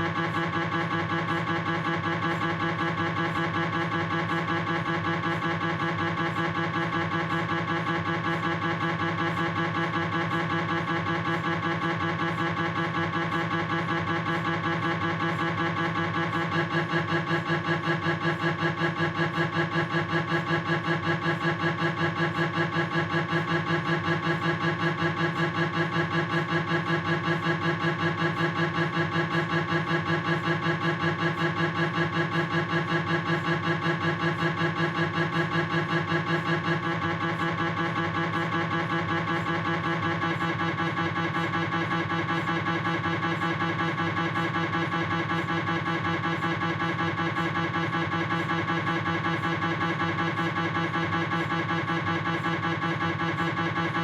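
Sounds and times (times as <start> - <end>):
mri scanner pulsing: 0.1 - 54.0.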